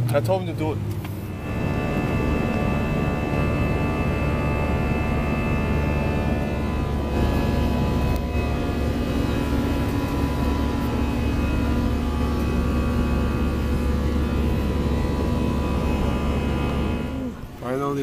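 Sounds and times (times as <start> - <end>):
jet airliner cabin drone: 0.8 - 18.0.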